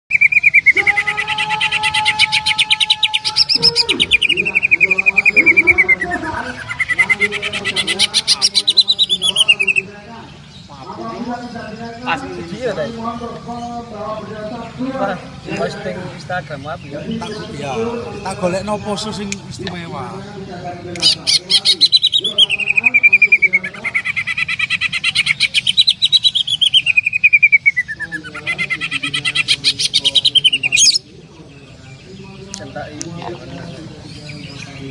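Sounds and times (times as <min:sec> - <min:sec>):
bird singing rapid sharp notes: 0:00.1 - 0:34.9.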